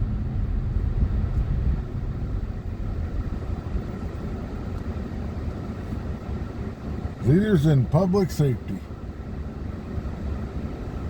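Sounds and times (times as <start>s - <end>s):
car driving heard from inside: 0.0s - 11.0s.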